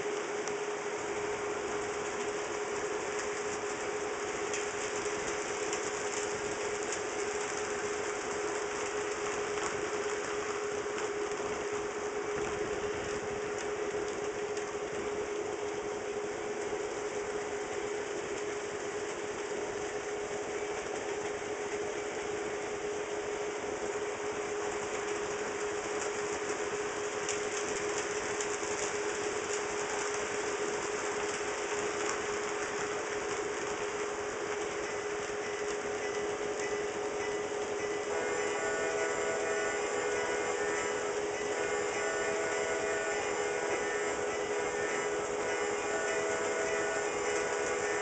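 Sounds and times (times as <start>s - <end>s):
model train motor hum: 0.0s - 48.0s.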